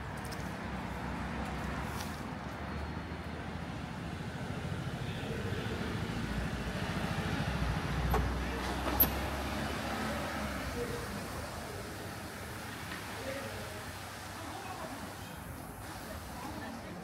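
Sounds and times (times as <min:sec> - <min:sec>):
cars passing on street: 0:00.0 - 0:17.0.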